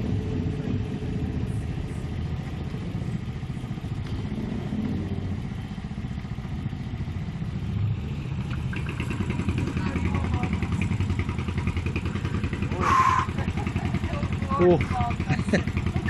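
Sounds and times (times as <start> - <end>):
motorcycle engines idling: 0.0 - 16.0.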